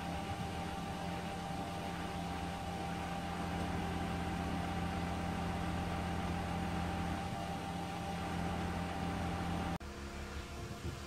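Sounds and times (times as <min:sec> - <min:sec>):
truck engine and hydraulics droning: 0:00.0 - 0:11.0.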